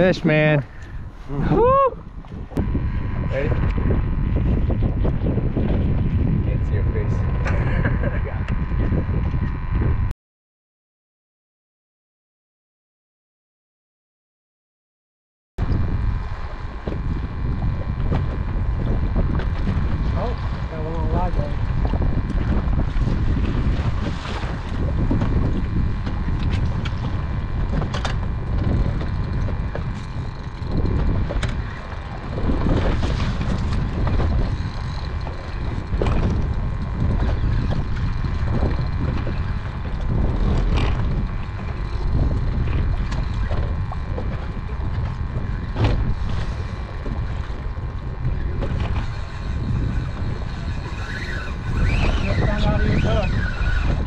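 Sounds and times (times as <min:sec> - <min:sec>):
faint steady hum: 0:00.0 - 0:10.1, 0:15.6 - 0:54.0
water and hull noise: 0:00.0 - 0:10.1, 0:15.6 - 0:54.0
wind buffeting microphone: 0:00.0 - 0:10.1, 0:15.6 - 0:54.0.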